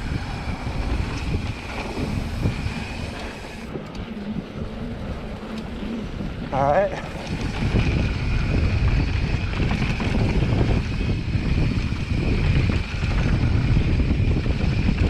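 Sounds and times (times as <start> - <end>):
bike tyres rumbling on dirt trail: 0.0 - 15.0
wind buffeting microphone: 0.0 - 15.0.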